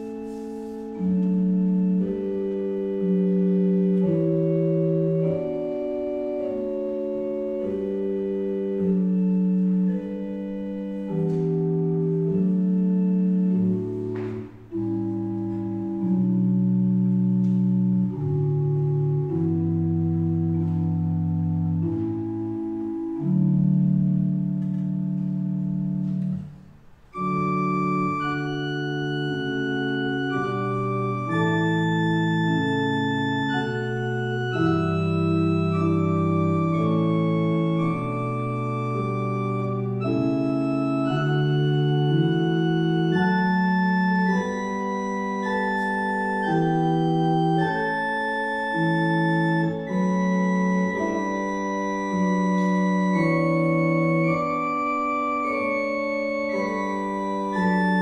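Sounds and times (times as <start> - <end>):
church organ playing slow chords: 0.0 - 58.0.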